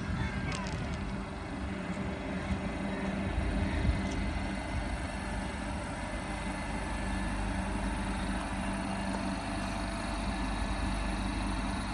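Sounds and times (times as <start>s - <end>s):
low electrical hum: 0.0s - 11.9s
train wheels rumbling on rail: 0.0s - 11.9s.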